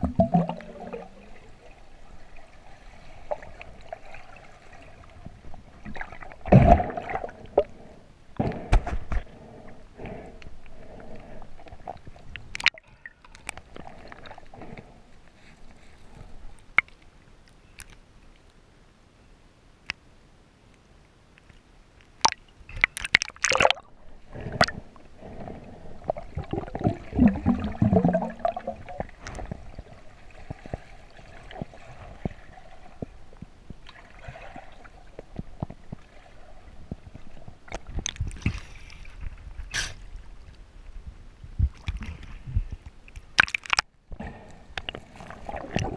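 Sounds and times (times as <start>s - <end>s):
underwater water sloshing and gurgling: 0.0s - 18.5s, 21.4s - 45.9s.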